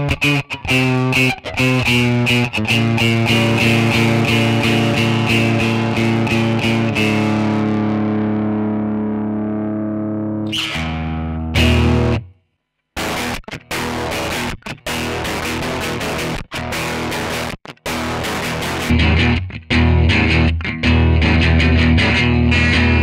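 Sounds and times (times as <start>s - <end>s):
distorted electric guitar chords: 0.0s - 23.0s.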